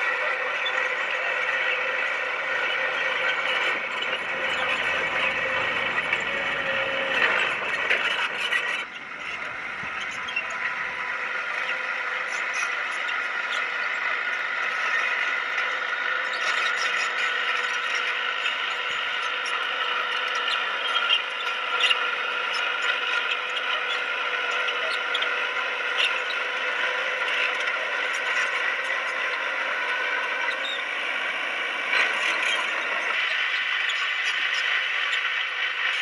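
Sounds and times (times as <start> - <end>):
bulldozer engine drone: 0.0 - 36.0
steel tracks squealing and clicking: 0.0 - 36.0.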